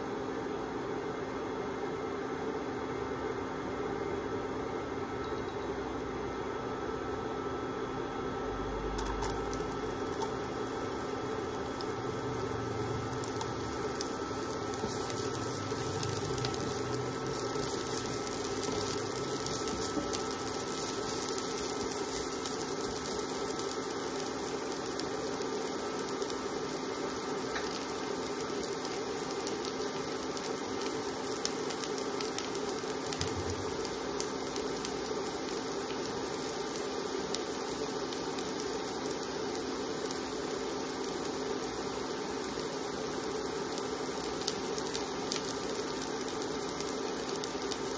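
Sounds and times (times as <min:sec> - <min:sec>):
vegetables sizzling in hot oil: 0:08.8 - 0:47.9.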